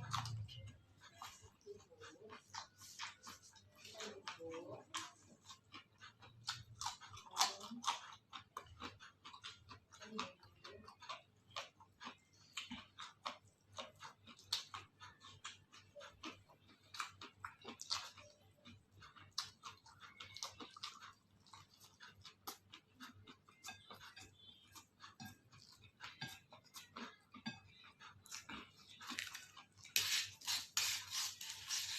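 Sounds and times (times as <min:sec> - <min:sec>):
food being chewed crunchily: 0:00.0 - 0:31.9.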